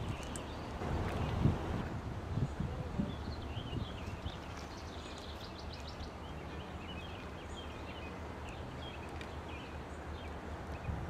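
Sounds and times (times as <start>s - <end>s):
birds chirping: 0.0s - 1.7s, 2.3s - 11.0s.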